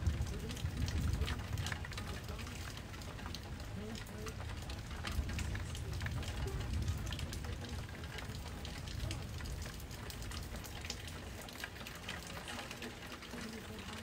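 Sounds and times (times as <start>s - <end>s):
thunder rumble: 0.0s - 11.7s
rain pattering: 0.0s - 14.0s.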